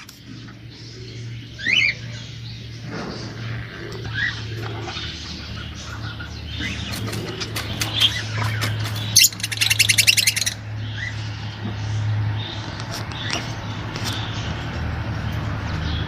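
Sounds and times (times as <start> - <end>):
cage bird chirping and trilling: 0.0 - 16.0.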